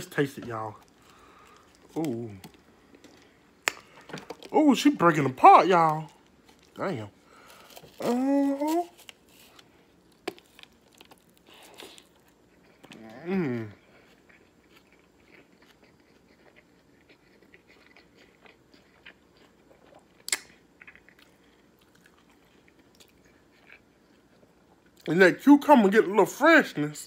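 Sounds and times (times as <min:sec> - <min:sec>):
person chewing crunchy food: 0:00.1 - 0:25.1.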